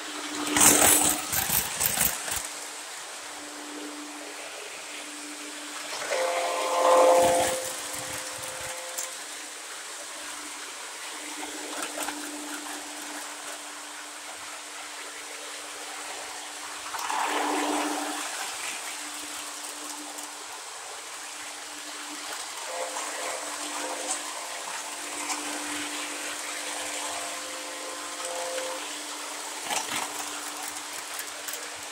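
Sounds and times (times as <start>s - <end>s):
model trains rumbling on track: 0.0s - 4.7s, 5.4s - 31.9s.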